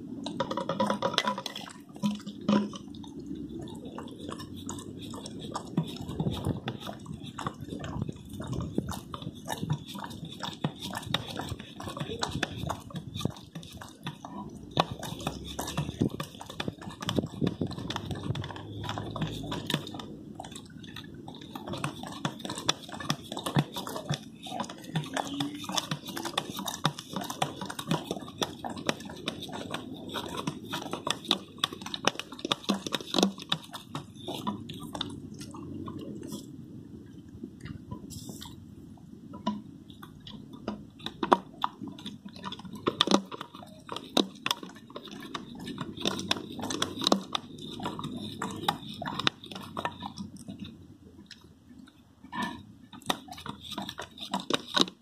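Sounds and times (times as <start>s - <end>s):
dog lapping from bottle: 0.1s - 38.7s, 39.4s - 55.0s.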